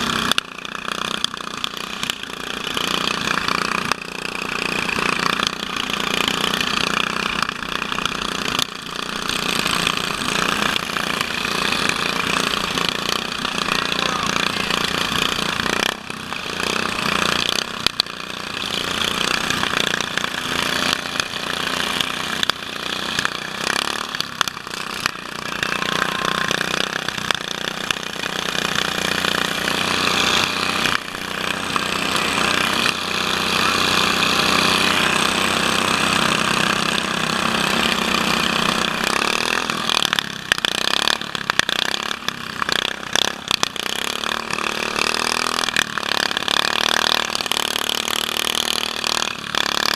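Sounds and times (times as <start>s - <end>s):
lawn mower engine running hard: 0.0s - 49.9s
other mower engines: 0.0s - 49.9s.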